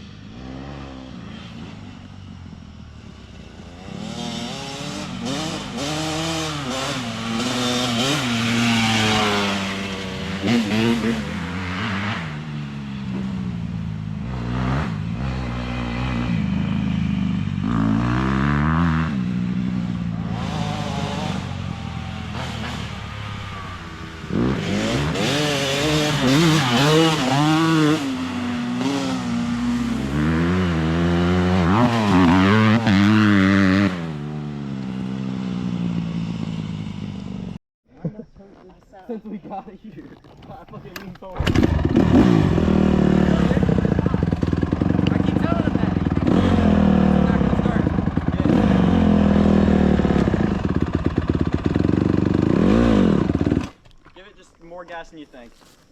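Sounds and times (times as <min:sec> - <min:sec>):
dirt bike engine revving: 0:00.0 - 0:02.0, 0:02.9 - 0:37.6, 0:41.2 - 0:53.8.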